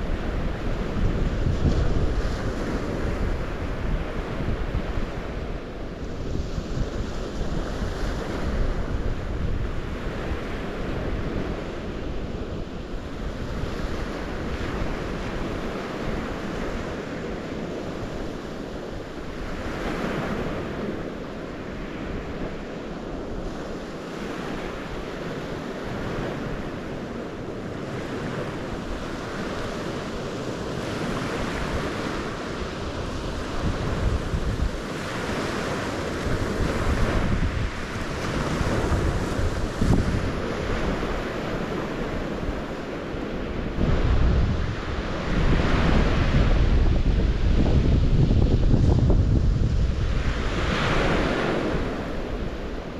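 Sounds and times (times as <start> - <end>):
waves washing ashore: 0.0 - 52.9
wind buffeting microphone: 0.0 - 52.9.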